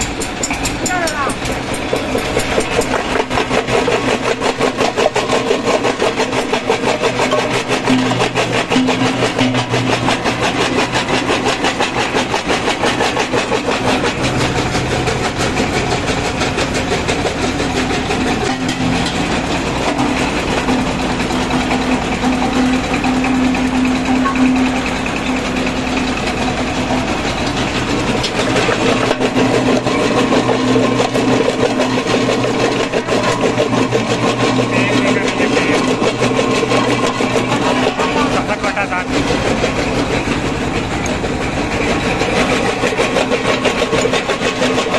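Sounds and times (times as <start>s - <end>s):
diesel engine running: 0.0s - 44.9s
brick crushed in jaw crusher: 0.1s - 23.0s, 23.6s - 38.6s.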